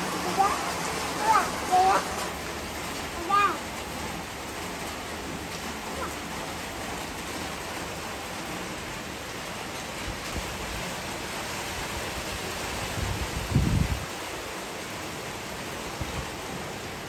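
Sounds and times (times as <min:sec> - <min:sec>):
rain on tiles and plants: 0:00.0 - 0:17.0.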